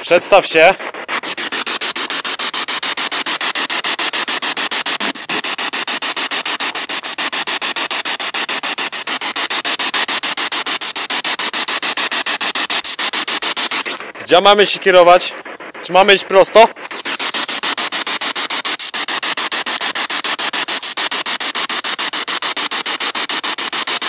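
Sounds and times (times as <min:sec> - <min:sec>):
pulsing radio static: 0:00.0 - 0:24.0.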